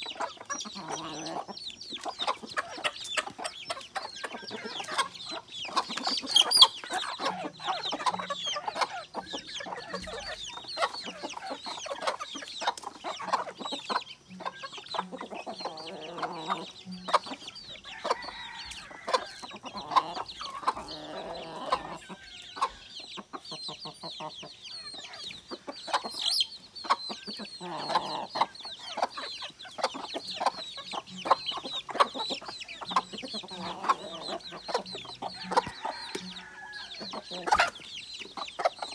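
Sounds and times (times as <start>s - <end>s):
chickens clucking: 0.0s - 38.9s
chicks peeping: 0.0s - 38.9s.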